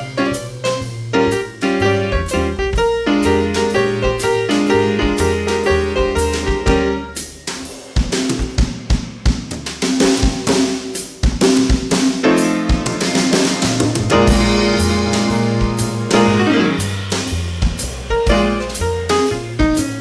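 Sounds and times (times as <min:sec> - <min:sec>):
jazz-blues band playing: 0:00.0 - 0:08.4, 0:11.9 - 0:20.0
snare and bass drum strokes: 0:00.0 - 0:20.0.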